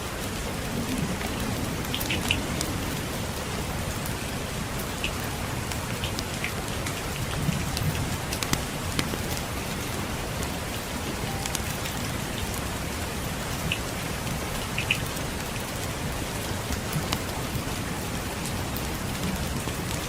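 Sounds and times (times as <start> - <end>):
rain falling on a surface: 0.0 - 20.0.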